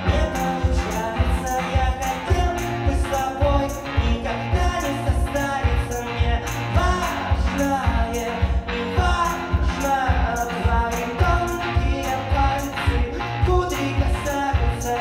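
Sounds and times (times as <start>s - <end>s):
bass drum beat: 0.0s - 15.0s
electric guitar: 0.0s - 15.0s
keyboard: 0.0s - 15.0s
man singing into a microphone: 0.0s - 15.0s.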